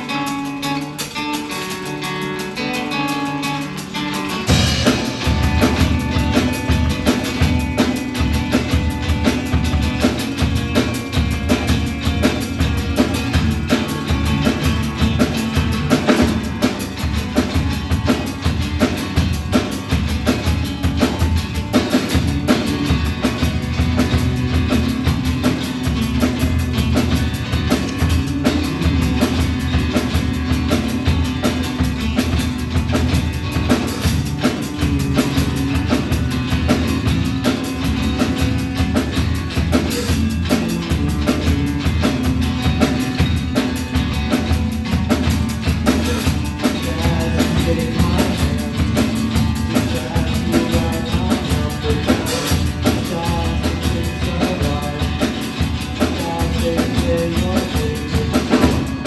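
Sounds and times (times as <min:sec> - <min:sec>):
drum kit beat: 0:00.0 - 0:59.0
live rock band playing: 0:00.0 - 0:59.0.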